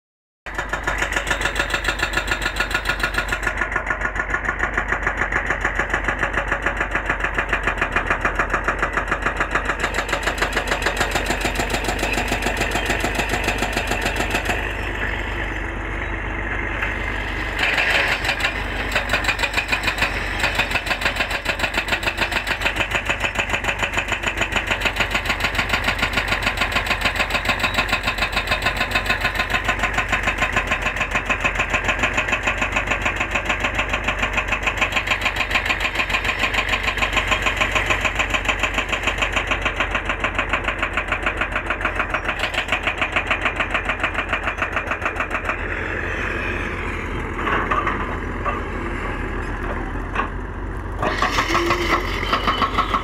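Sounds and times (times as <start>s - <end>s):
diesel engine running: 0.5s - 53.0s.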